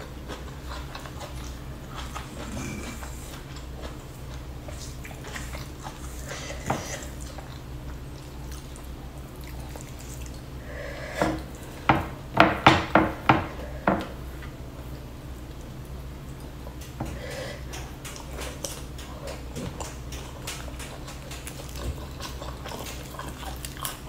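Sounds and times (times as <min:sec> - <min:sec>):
wet chewing clicks: 0:00.0 - 0:11.8, 0:15.4 - 0:24.0.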